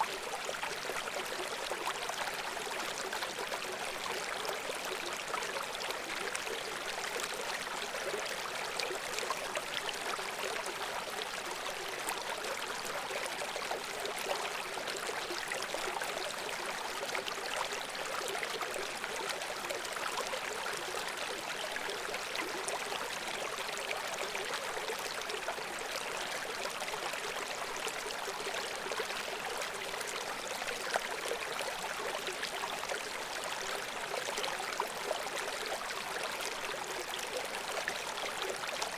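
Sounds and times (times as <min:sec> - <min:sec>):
brook babbling: 0:00.0 - 0:38.9.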